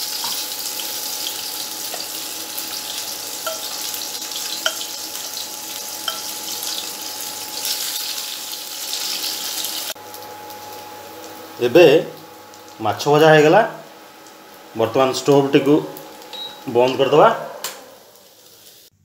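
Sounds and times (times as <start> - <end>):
fish sizzling in hot oil: 0.0 - 16.4, 17.8 - 19.0.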